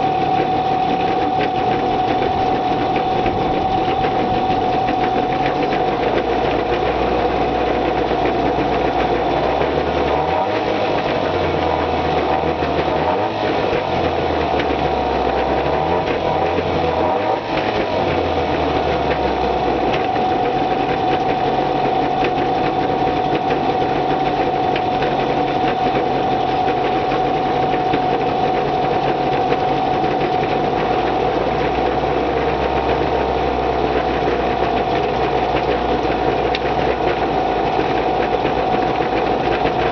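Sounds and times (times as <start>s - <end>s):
outboard motor idling: 0.0s - 39.9s.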